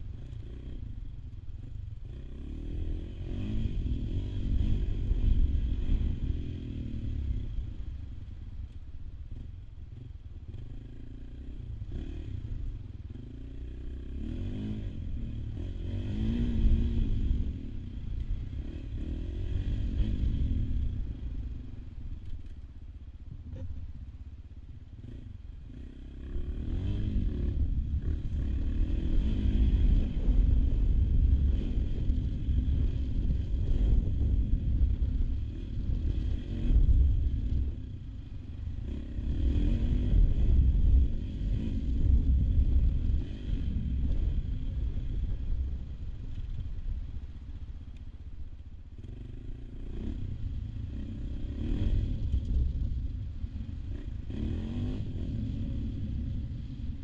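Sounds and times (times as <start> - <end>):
motorcycle engine revving: 0.0 - 46.7, 48.2 - 57.0.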